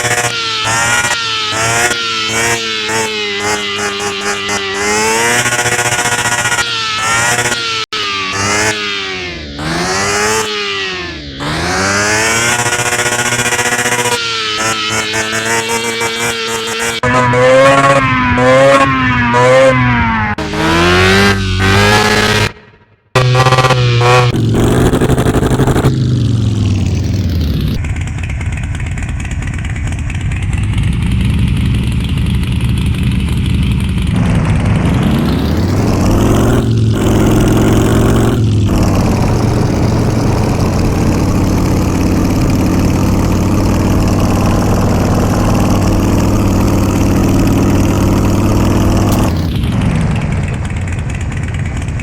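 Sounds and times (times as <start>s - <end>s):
gear changes: 0.0s - 52.0s
motorcycle engine accelerating: 0.0s - 52.0s.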